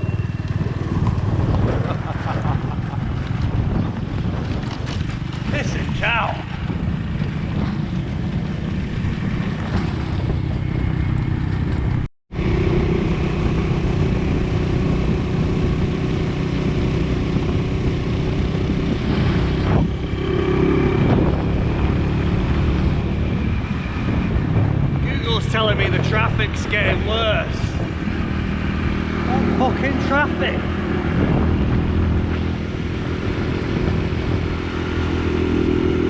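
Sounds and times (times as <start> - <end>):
motorcycle engine running: 0.0 - 36.0
wind buffeting microphone: 0.0 - 36.0.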